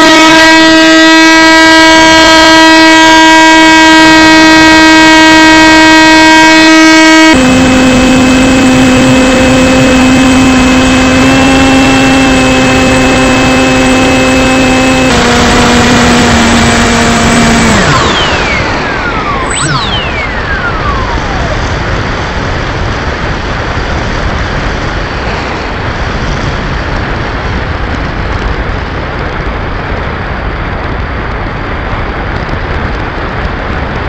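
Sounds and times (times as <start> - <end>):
electric motor and propeller whine: 0.0 - 29.2.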